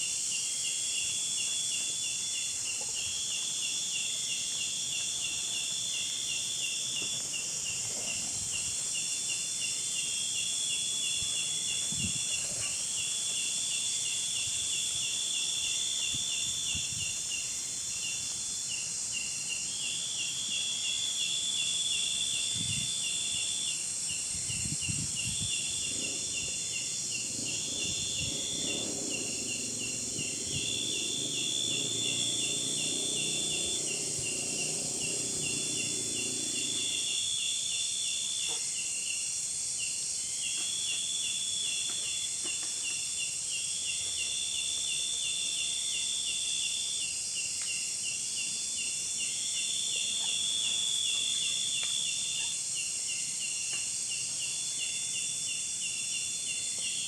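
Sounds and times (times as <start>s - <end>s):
high hiss of insects: 0.0s - 57.0s
insects chirping and buzzing: 0.0s - 57.0s.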